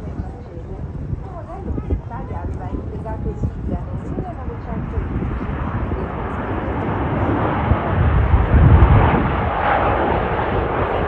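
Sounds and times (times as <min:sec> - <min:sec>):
aircraft engine rumble: 0:00.0 - 0:11.0.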